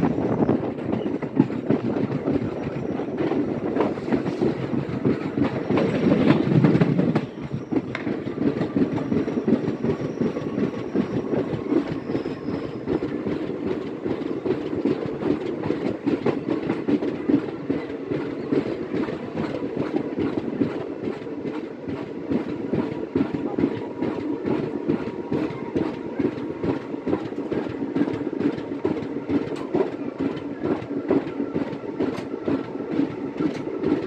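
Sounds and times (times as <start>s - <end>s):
clickety-clack of rail joints: 0.0s - 34.0s
train wheels rumbling on rails: 0.0s - 34.0s.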